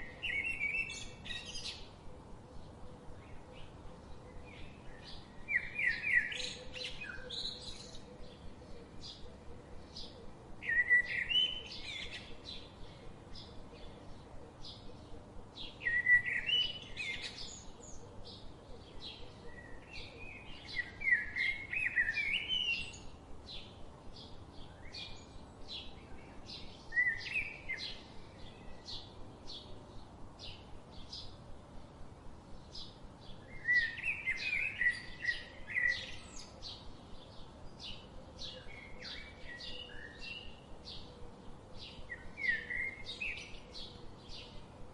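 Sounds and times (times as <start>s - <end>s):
bird chirping: 0.0s - 31.4s, 32.5s - 44.9s.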